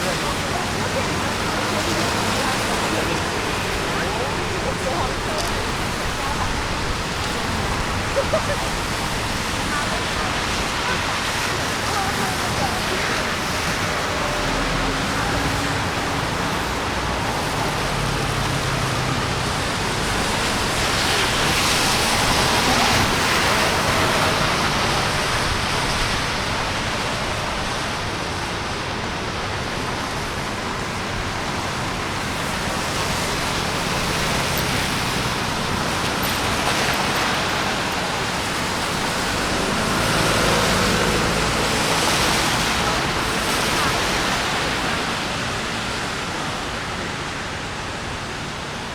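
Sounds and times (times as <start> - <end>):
rain hiss: 0.0 - 48.9
tyres on wet streets: 0.0 - 48.9.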